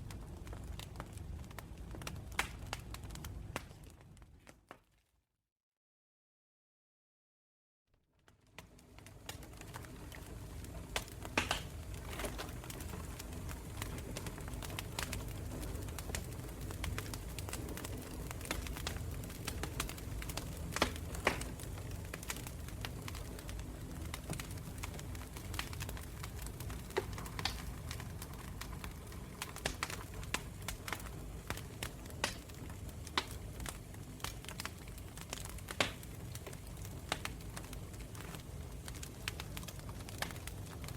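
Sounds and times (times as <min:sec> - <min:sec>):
low rumble of flames: 0:00.0 - 0:04.6, 0:08.3 - 0:40.9
campfire crackling and popping: 0:00.0 - 0:04.8, 0:08.3 - 0:40.9.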